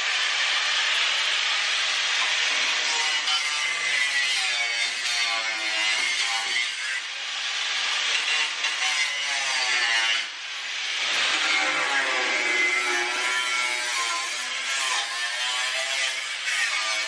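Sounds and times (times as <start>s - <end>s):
angle grinder cutting metal: 0.0s - 17.0s.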